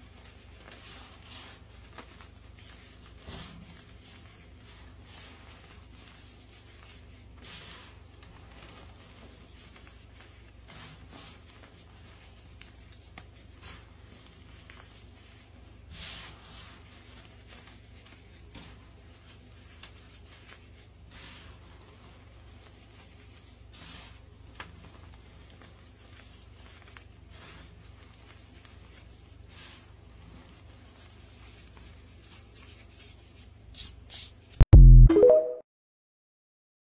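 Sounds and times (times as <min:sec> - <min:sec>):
hands crumbling and rubbing powder: 0:00.0 - 0:34.6.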